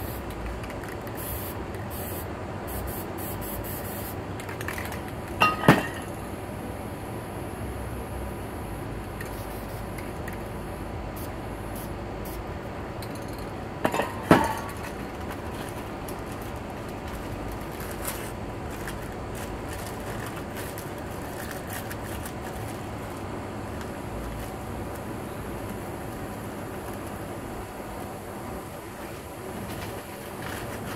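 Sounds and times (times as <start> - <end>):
steady background hiss: 0.0 - 30.9.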